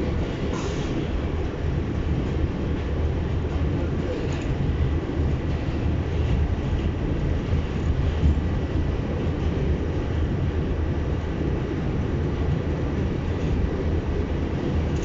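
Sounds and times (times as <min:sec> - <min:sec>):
subway wheels rumbling on rails: 0:00.0 - 0:15.0.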